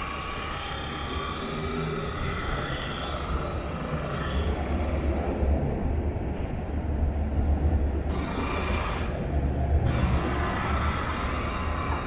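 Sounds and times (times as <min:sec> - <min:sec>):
city street low rumble: 0:00.0 - 0:12.0.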